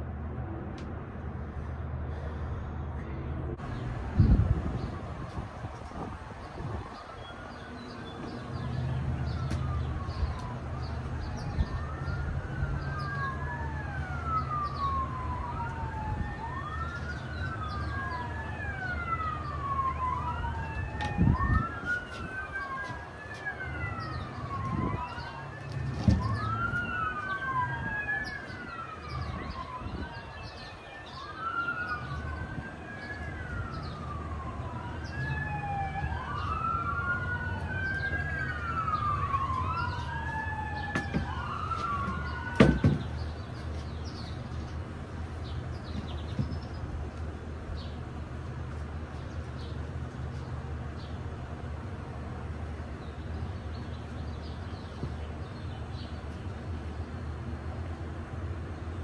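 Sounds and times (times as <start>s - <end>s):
emergency sirens wailing: 2.2s - 58.8s.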